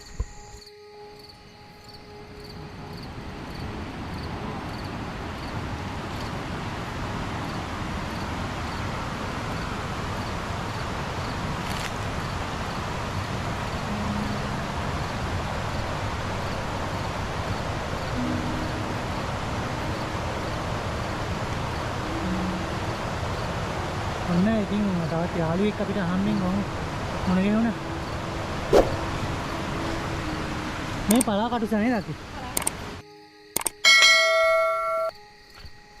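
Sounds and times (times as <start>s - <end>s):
steady rushing rain forest noise: 0.0s - 33.0s
insect chirping: 0.0s - 36.0s.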